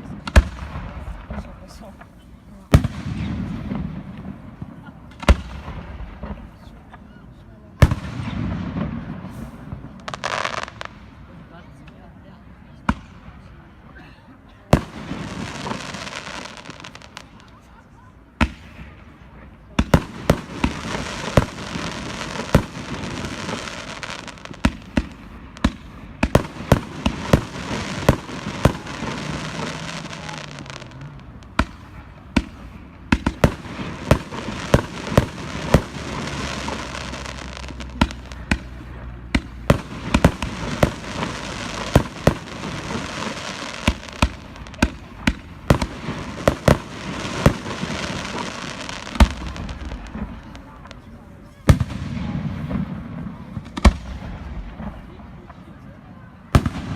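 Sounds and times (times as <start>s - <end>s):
firework crackling: 0.0s - 7.1s, 7.7s - 14.0s, 14.6s - 56.9s.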